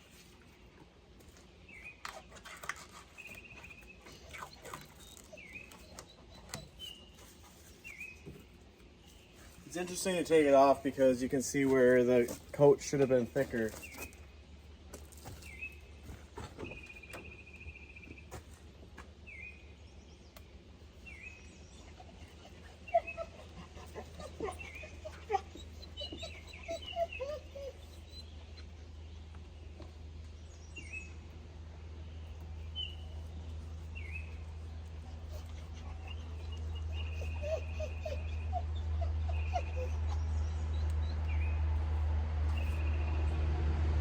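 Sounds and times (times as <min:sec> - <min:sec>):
small birds chirping: 0:00.0 - 0:43.2.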